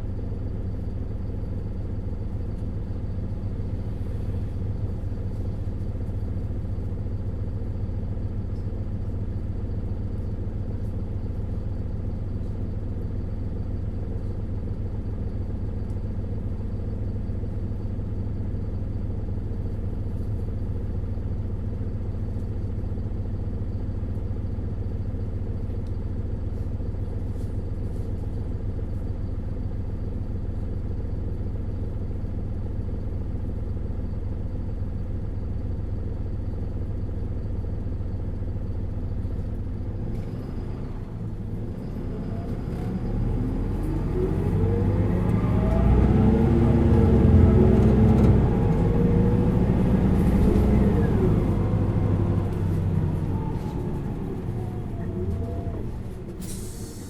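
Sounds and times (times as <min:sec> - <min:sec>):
bus diesel engine rumbling: 0:00.0 - 0:57.0.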